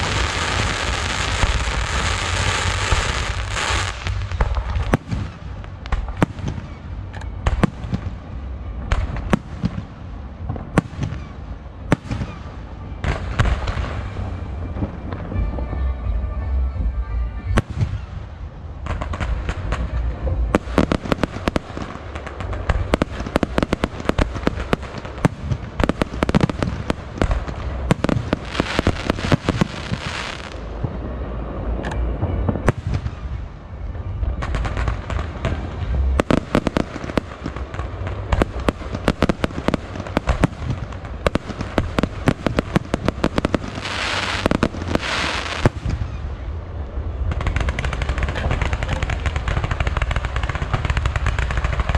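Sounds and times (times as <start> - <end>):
hissing crackle of fireworks: 0.0 - 51.9
steady low rumble: 0.0 - 51.9.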